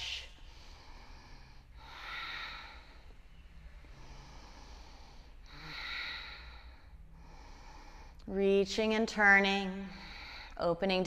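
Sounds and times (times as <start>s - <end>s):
woman breathing deeply: 0.0s - 8.3s, 9.8s - 10.6s
faint low hum: 0.0s - 11.0s.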